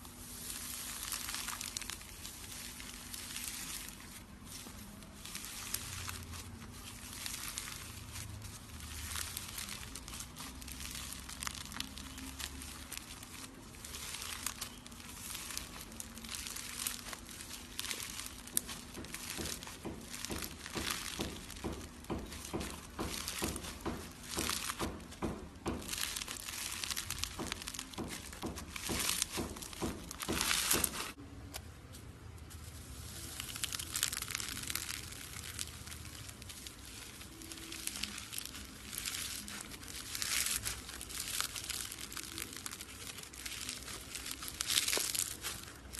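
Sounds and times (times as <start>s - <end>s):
slime crackling by hand: 0.0s - 31.6s, 32.2s - 45.9s.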